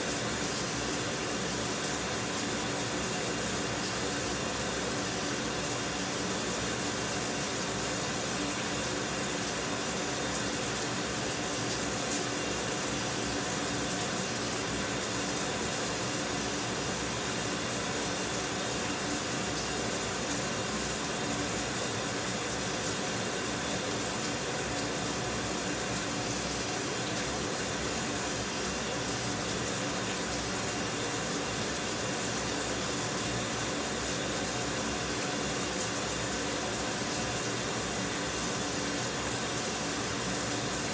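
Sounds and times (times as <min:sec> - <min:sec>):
shower water spraying: 0:00.0 - 0:40.9.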